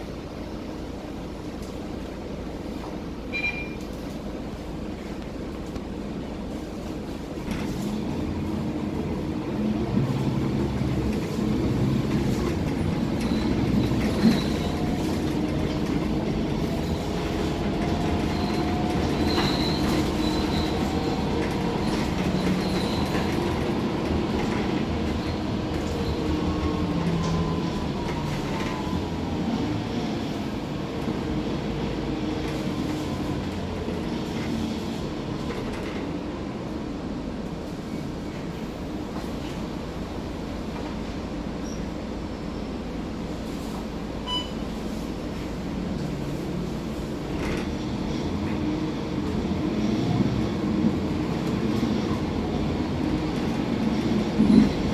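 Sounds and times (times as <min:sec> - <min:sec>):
bus diesel engine rumble: 0:00.0 - 0:54.9.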